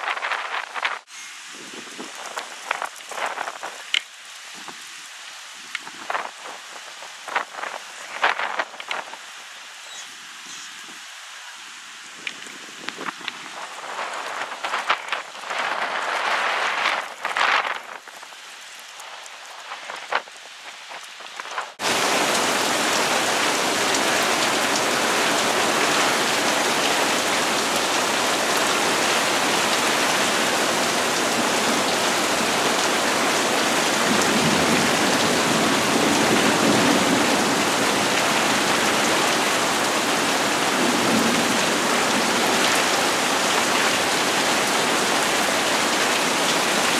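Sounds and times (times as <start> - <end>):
gusts of wind: 0.0 - 4.9, 5.6 - 9.4, 12.0 - 46.9
heavy rain pouring: 0.0 - 46.9.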